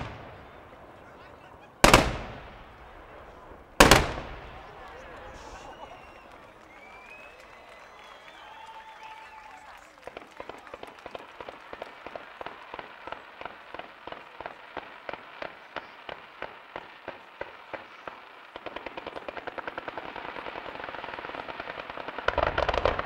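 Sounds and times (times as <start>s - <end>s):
heavy firework bangs: 0.0s - 7.1s, 10.0s - 23.0s
fireworks popping: 0.0s - 23.0s.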